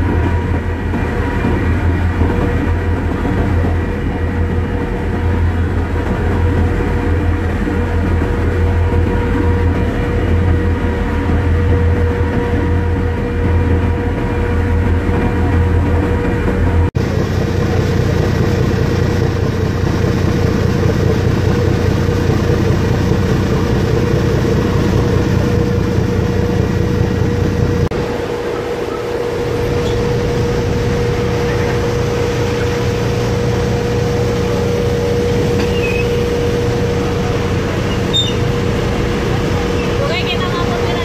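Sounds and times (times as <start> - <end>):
ship engines droning: 0.0 - 41.0.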